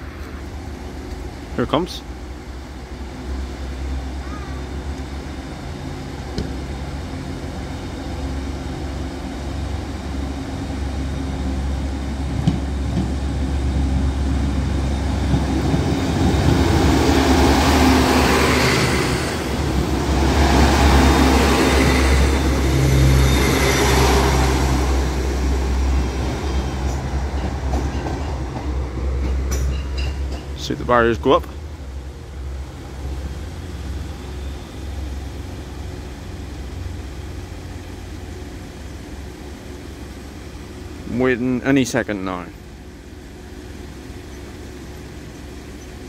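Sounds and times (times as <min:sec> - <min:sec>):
train engine and wheel rumble: 0:00.0 - 0:46.0.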